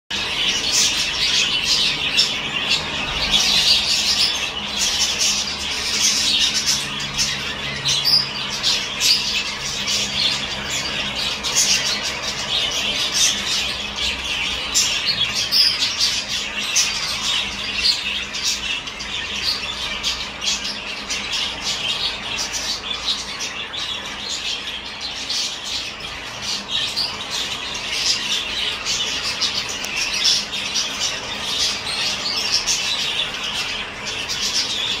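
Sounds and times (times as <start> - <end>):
lovebirds chirping and squawking: 0.1 - 35.0.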